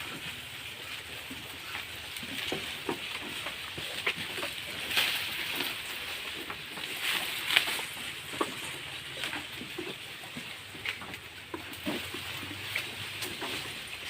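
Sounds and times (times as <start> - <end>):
rustles and knocks: 0.0 - 14.0.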